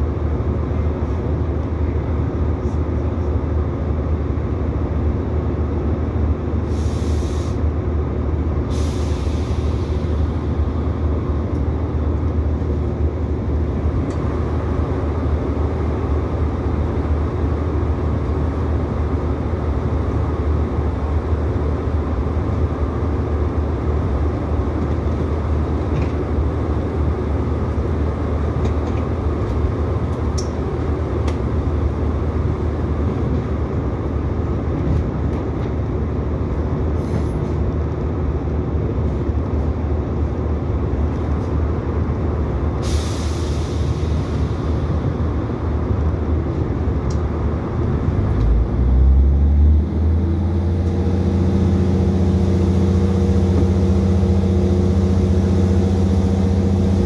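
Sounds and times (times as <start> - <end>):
train engine and wheels rumbling: 0.0 - 57.0.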